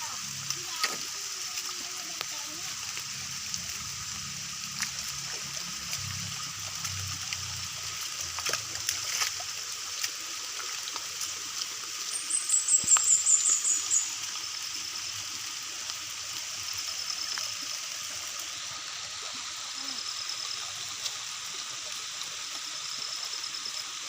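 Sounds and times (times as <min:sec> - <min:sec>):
flowing stream: 0:00.0 - 0:24.0.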